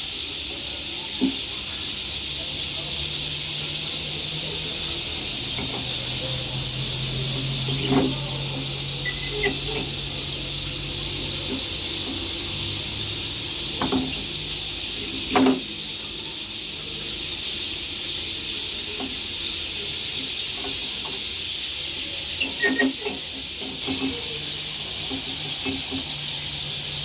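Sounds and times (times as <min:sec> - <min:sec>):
small birds twittering: 0:00.0 - 0:27.0.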